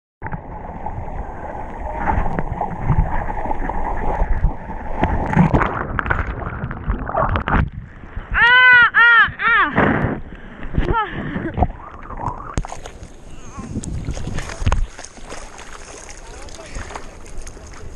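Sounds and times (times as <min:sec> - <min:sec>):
water sloshing and splashing: 0:00.2 - 0:08.4, 0:10.6 - 0:17.9.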